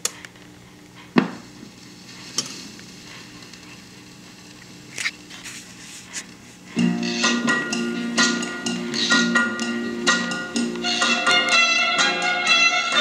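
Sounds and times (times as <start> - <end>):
record player hum: 0.0 - 13.0.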